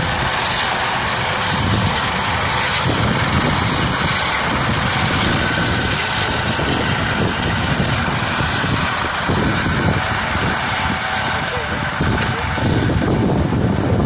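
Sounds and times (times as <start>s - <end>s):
helicopter hovering: 0.0s - 14.0s.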